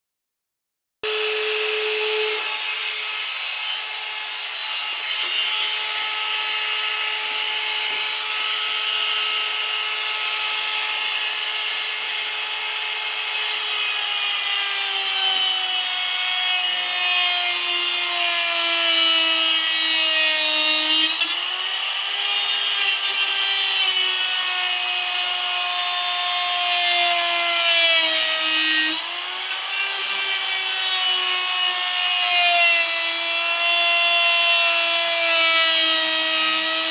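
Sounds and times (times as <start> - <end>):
die grinder carving wood: 1.0 - 36.9.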